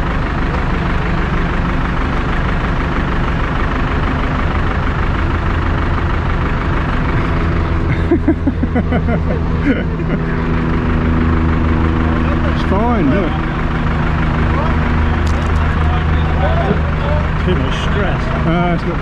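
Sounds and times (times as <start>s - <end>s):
diesel engine running steadily: 0.0s - 19.0s.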